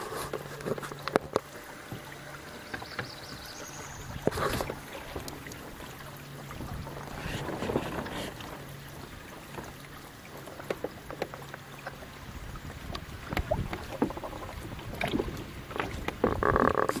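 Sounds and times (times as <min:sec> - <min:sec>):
water splashing against hull: 0:00.0 - 0:17.0.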